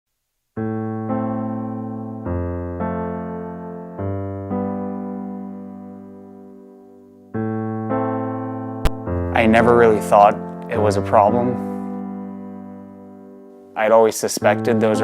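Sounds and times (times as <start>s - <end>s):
slow electric piano chords: 0.6s - 15.0s.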